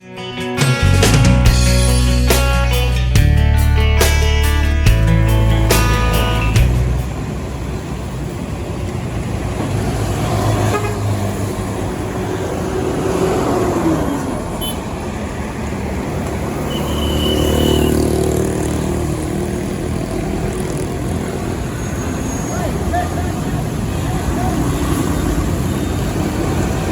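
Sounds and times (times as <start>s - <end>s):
heavy trucks passing: 4.9s - 26.9s.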